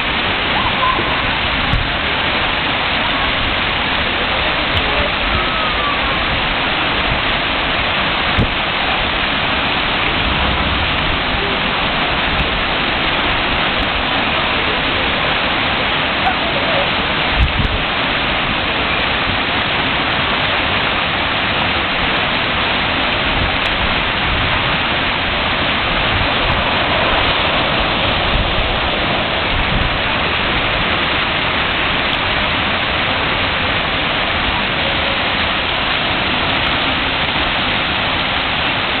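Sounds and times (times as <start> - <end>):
water splashing from spray jets: 0.0 - 39.0
water streams pouring down: 0.0 - 39.0.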